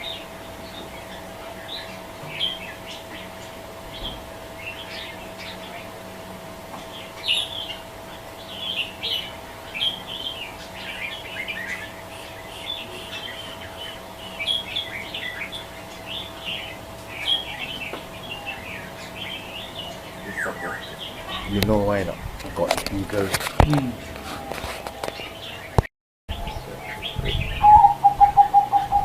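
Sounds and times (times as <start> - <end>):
faint steady hum: 0.0 - 29.0
small birds chirping: 0.0 - 29.0.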